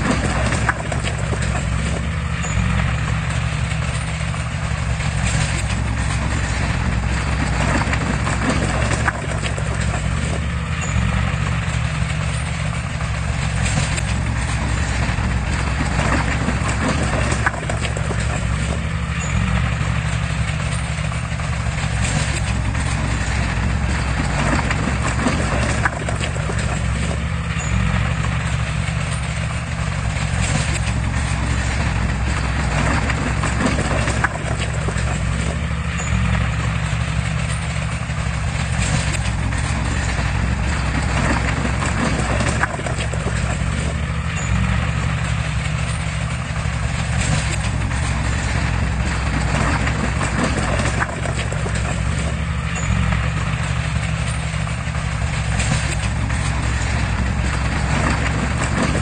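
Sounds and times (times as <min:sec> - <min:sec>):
bulldozer diesel engine running: 0:00.0 - 0:59.0
metallic clanking of steel tracks: 0:00.0 - 0:59.0.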